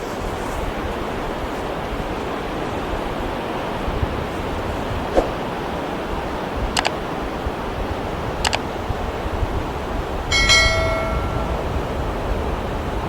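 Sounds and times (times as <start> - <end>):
ocean surf rushing: 0.0 - 13.0.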